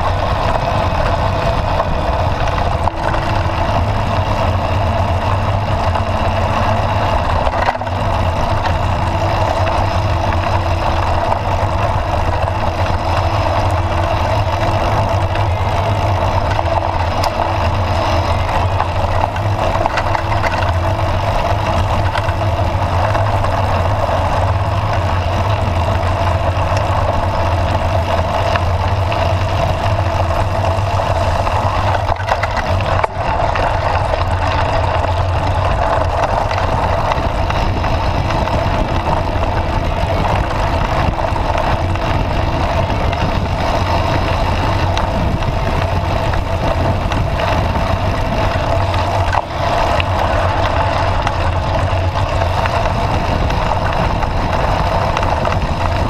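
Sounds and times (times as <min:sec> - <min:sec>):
bike tyres on dirt track: 0:00.0 - 0:56.0
wind on microphone: 0:00.0 - 0:56.0.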